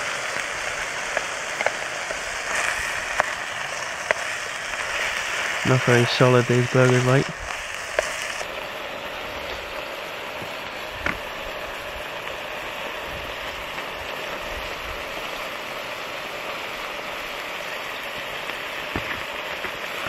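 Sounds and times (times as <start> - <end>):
burgers sizzling in oil: 0.0 - 20.0.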